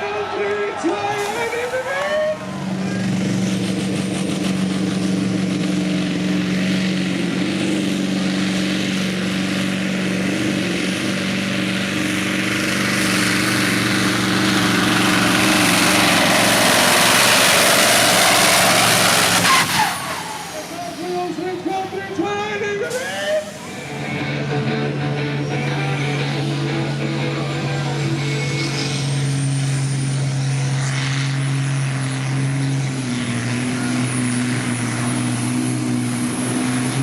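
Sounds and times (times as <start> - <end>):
truck engine roaring: 0.0 - 37.0.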